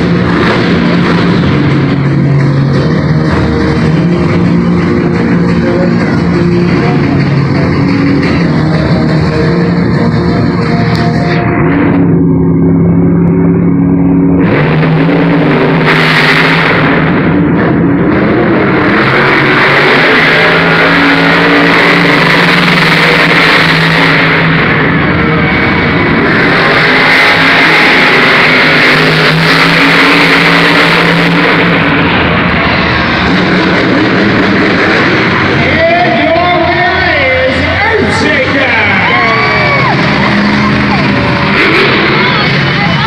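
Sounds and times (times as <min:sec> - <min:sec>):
truck engines revving loud: 0:00.0 - 0:43.0.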